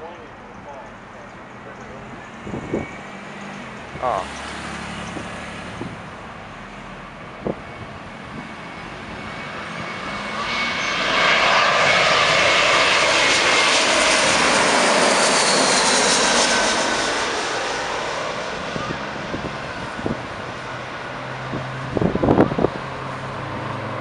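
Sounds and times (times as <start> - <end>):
jet airliner passing overhead: 0.0 - 24.0.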